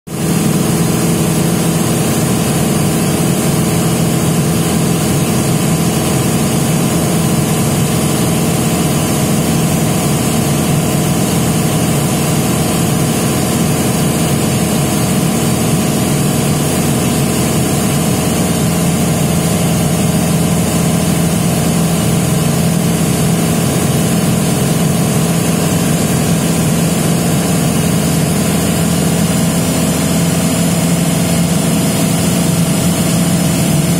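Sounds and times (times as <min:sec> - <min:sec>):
propeller aircraft engine droning: 0:00.1 - 0:33.9.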